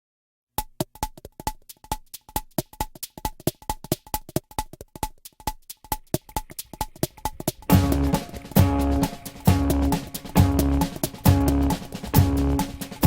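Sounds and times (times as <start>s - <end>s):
electronic drum beat: 0.6s - 13.0s.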